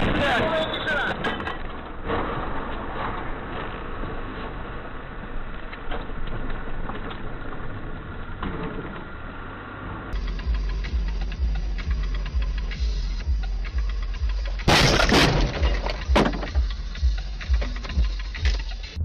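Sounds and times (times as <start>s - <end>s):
road noise: 0.0s - 19.0s
car engine: 1.7s - 19.0s.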